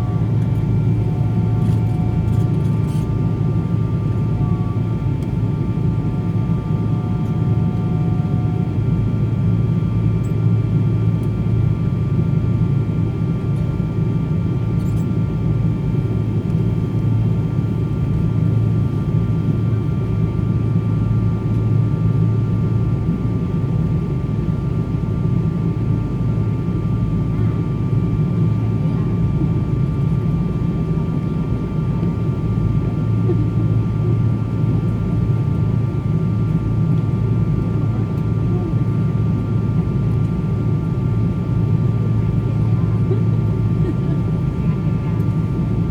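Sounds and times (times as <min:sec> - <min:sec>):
faint steady whining tones: 0:00.0 - 0:45.9
low rumble of jet engines: 0:00.0 - 0:45.9.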